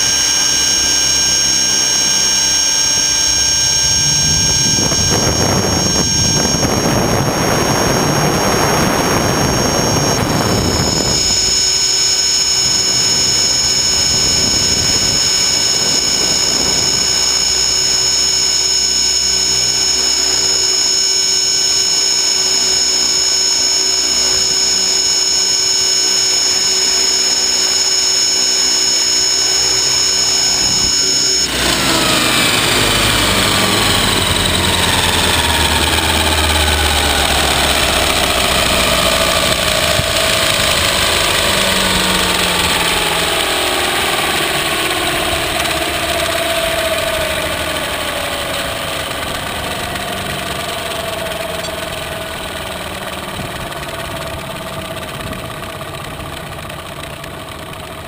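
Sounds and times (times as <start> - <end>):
rc helicopter high whine: 0.0 - 58.0.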